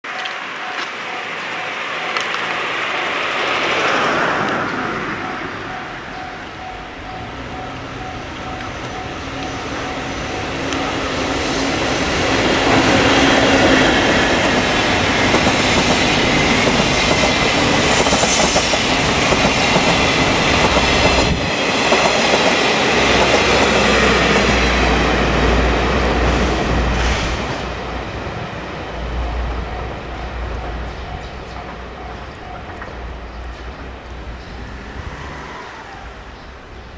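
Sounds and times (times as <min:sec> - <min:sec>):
train wheels on rails: 0:00.0 - 0:36.9.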